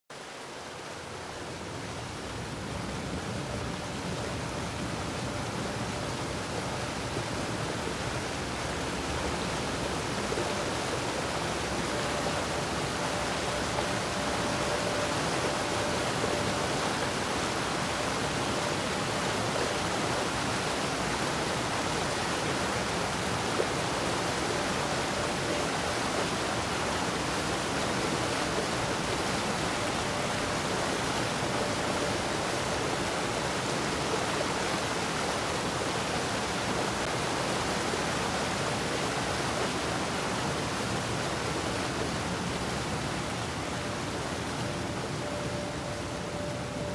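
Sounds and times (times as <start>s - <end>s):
waterfall rushing: 0.1s - 46.9s.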